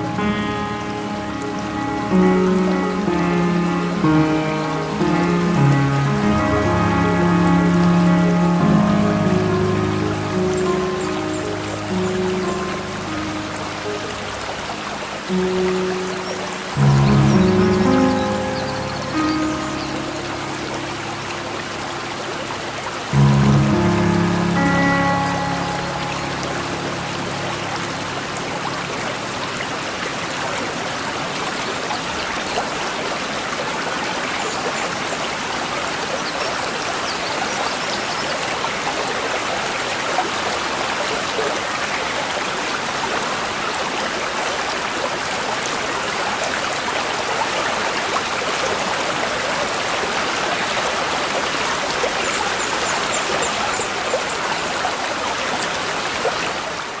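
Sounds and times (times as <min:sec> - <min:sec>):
brook babbling: 0:00.0 - 0:57.0.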